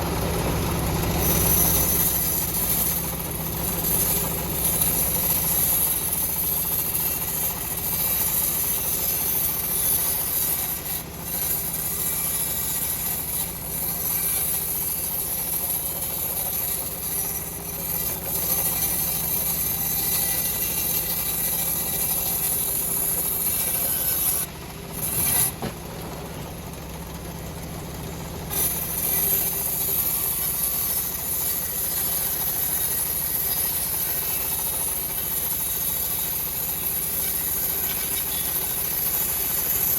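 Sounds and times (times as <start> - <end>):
bandsaw blade sawing log: 0.0 - 26.9, 28.4 - 39.9
engine humming: 0.0 - 39.9.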